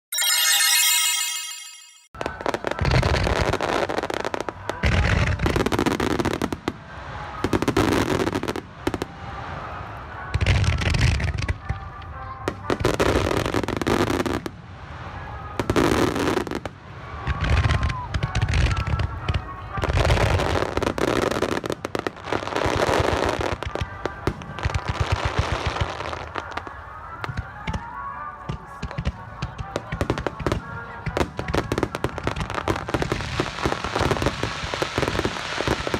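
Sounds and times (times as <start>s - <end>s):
fireworks crackling and popping: 0.2s - 35.9s.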